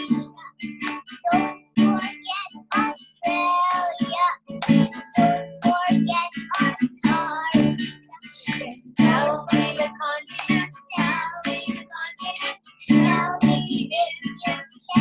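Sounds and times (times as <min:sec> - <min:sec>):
child and woman singing: 0:00.0 - 0:15.0
guitar accompaniment: 0:00.0 - 0:15.0.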